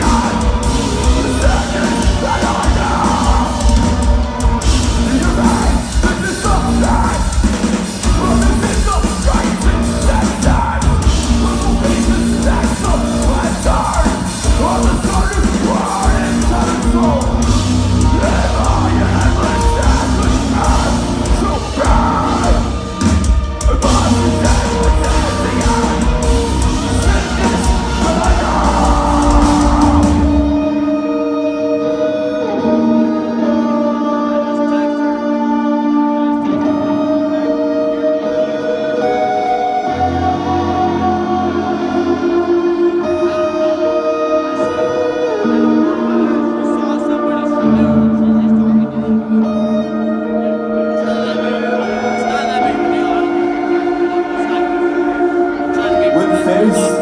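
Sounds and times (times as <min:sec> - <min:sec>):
drums: 0:00.0 - 0:57.0
heavy guitars: 0:00.0 - 0:57.0
vocals: 0:00.0 - 0:57.0.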